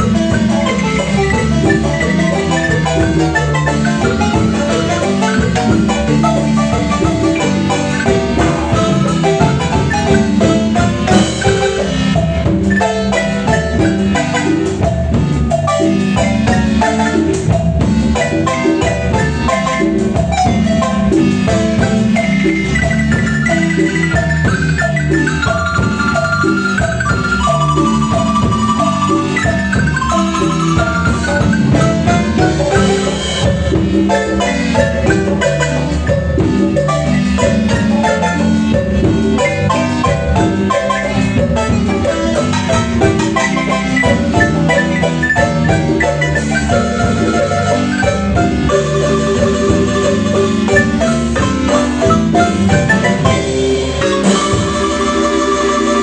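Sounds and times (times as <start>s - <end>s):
bass line: 0.0s - 56.0s
drum percussion: 0.0s - 56.0s
marimba music: 0.0s - 56.0s.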